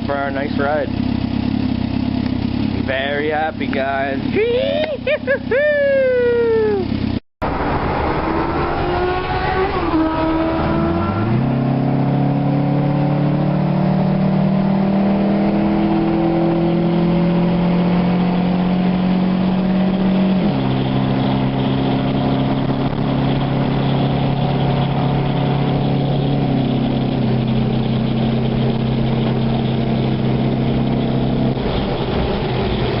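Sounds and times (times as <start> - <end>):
motorcycle engine running: 0.0 - 7.2, 13.0 - 33.0.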